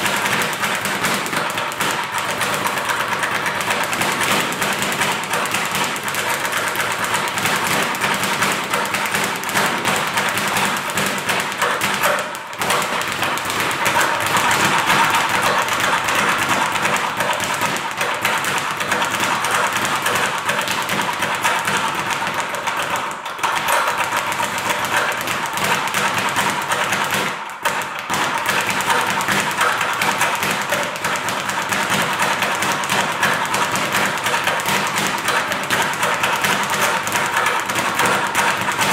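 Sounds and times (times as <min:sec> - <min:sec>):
speed bag punching rattle: 0:00.0 - 0:38.9.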